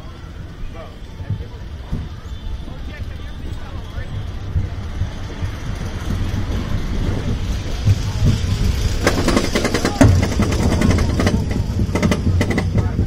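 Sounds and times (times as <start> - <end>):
roller coaster rumbling on track: 0.0 - 13.0
lift chain clacking: 0.8 - 13.0.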